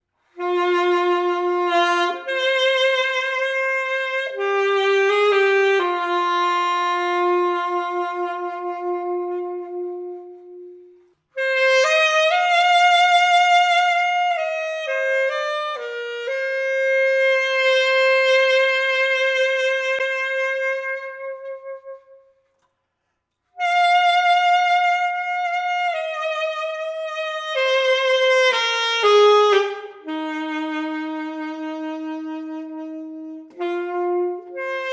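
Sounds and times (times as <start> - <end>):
alto saxophone melody: 0.2 - 22.7, 23.4 - 34.9.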